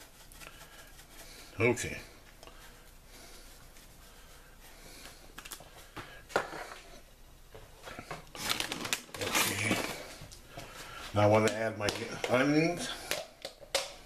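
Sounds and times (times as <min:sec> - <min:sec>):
rustling: 0:00.0 - 0:11.6.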